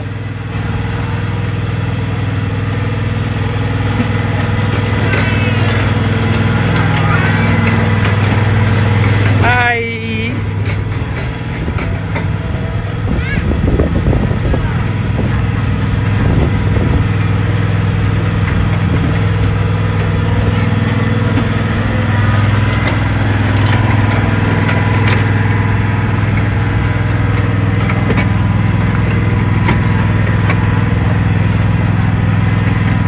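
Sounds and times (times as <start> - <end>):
small engine humming: 0.0 - 33.0.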